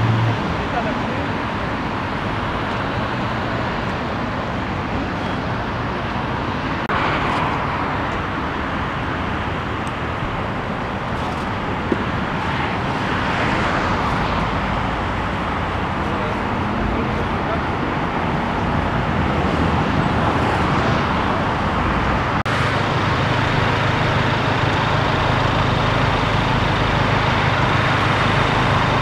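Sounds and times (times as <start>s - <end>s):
motorway traffic: 0.0s - 29.0s.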